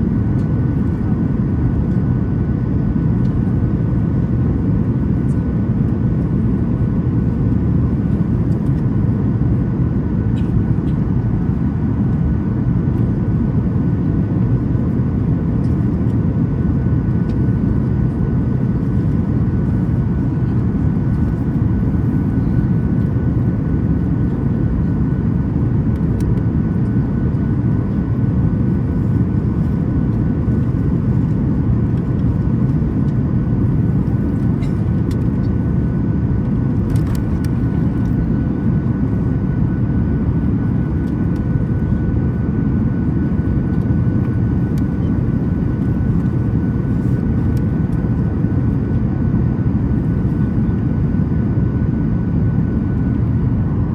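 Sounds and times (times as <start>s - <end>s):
airflow and engine rush: 0.0s - 53.9s.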